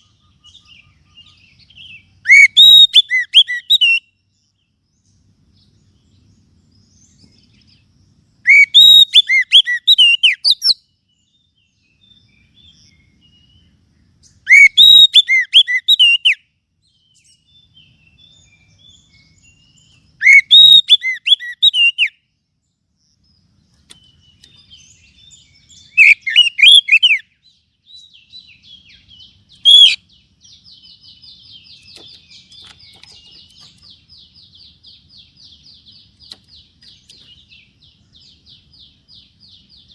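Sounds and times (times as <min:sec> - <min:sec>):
bird whistled song phrases: 0:00.0 - 0:04.2, 0:08.4 - 0:22.3, 0:23.9 - 0:39.9.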